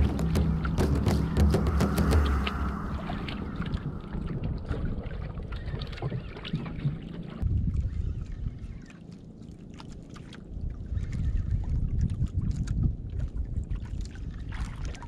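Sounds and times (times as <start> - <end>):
water sloshing against boat: 0.0 - 15.0
wind rumbling on microphone: 0.0 - 15.0.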